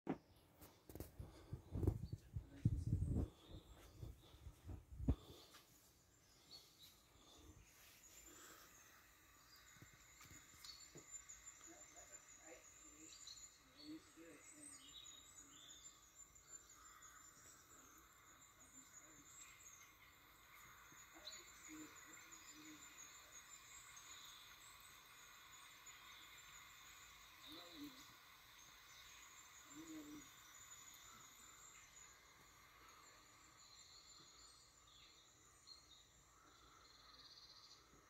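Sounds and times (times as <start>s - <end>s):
faint room hiss: 0.2s - 38.0s.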